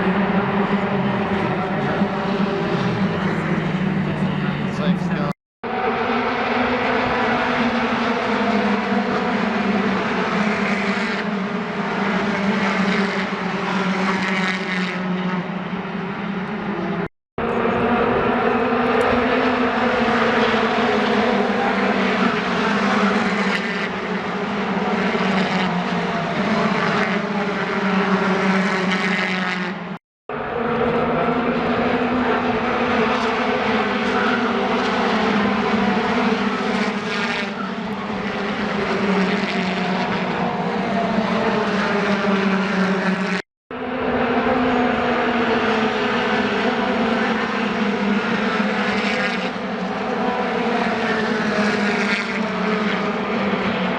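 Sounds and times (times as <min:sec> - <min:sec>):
engine drone: 0:00.0 - 0:53.9.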